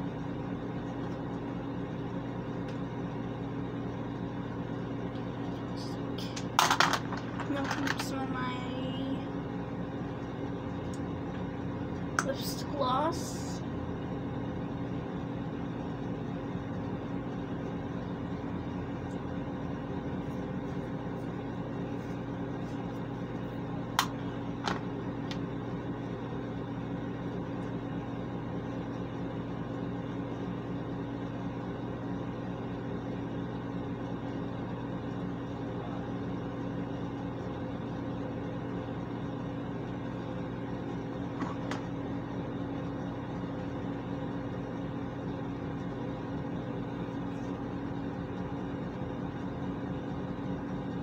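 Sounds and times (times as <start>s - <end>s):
exhaust fan humming: 0.0s - 51.0s.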